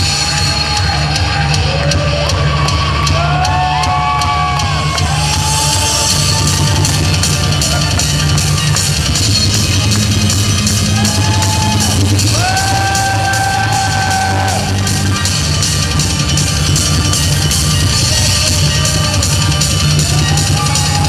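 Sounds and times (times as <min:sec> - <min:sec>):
rock dance music: 0:00.0 - 0:21.0.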